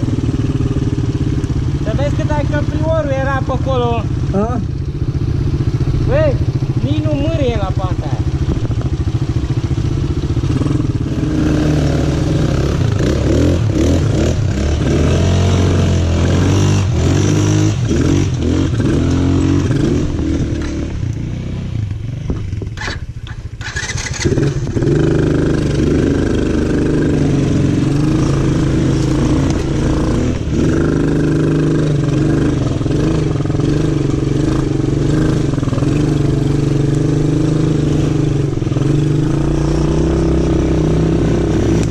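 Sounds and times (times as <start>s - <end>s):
small atv engine running: 0.0s - 41.9s.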